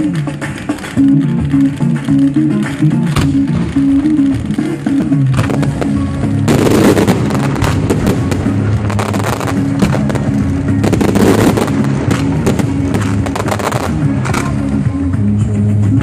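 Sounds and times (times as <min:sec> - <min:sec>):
fireworks launching and bursting: 0:00.0 - 0:14.8
music playing: 0:00.0 - 0:16.0.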